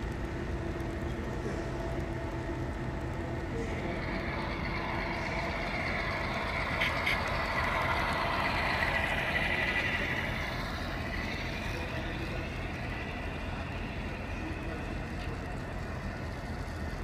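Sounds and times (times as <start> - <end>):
model train rolling whir: 0.0 - 17.0.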